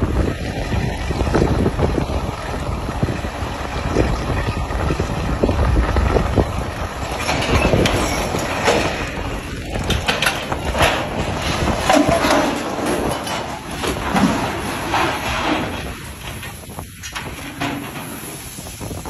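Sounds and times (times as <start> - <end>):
heavy mechanical rumble: 0.0 - 19.0
wind on microphone: 0.0 - 19.0
creaking and cracking: 3.5 - 19.0.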